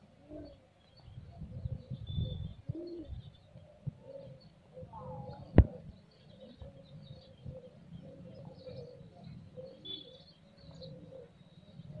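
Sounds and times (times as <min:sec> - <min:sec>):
pigeons cooing: 0:00.0 - 0:12.0
small birds chirping: 0:00.0 - 0:12.0.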